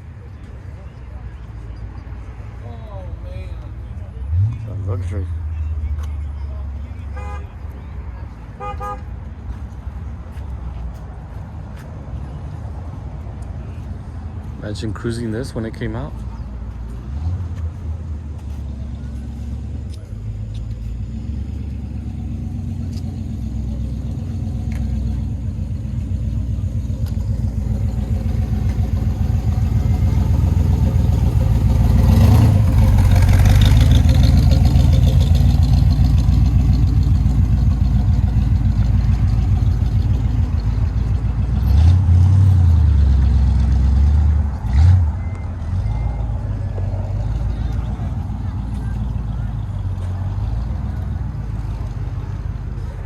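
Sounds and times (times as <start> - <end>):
car engine rumbling: 0.0 - 53.0.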